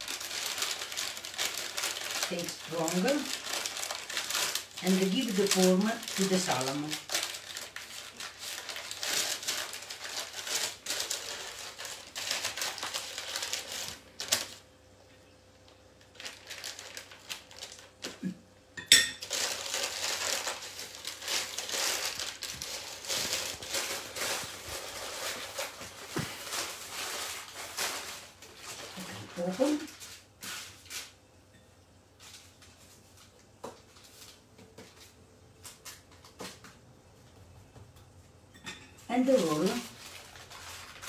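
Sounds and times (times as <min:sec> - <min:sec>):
paper crinkling and rustling: 0:00.0 - 0:14.7, 0:15.6 - 0:18.2, 0:19.2 - 0:31.2, 0:32.1 - 0:36.8, 0:39.1 - 0:41.0.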